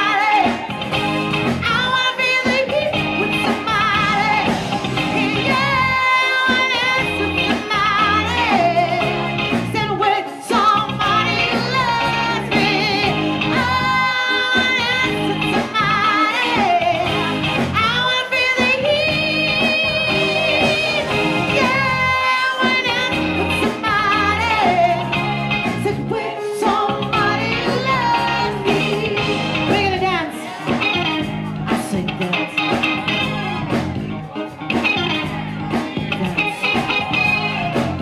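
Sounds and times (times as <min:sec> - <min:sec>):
live band playing: 0:00.0 - 0:38.0.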